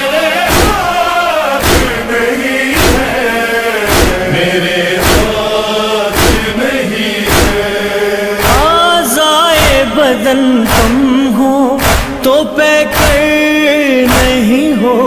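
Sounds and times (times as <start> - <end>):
chorus chanting wordless lament: 0.0 - 15.0
sharp percussive beat: 0.4 - 6.6, 7.2 - 13.5, 14.1 - 14.5.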